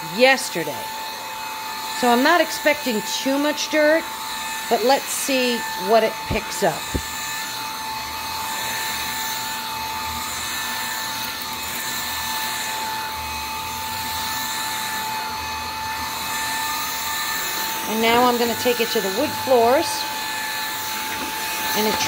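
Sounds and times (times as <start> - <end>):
stick vacuum whining: 0.0 - 22.0.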